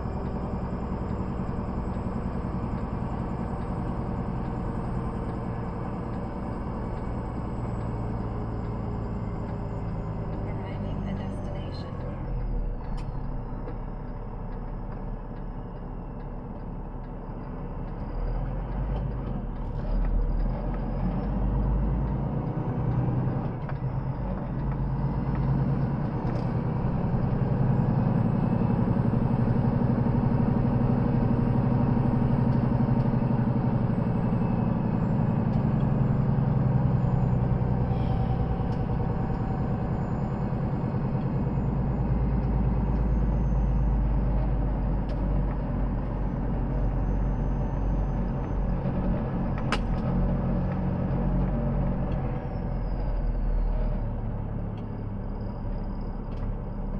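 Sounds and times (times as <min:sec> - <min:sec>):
diesel truck engine running: 0:00.0 - 0:56.9.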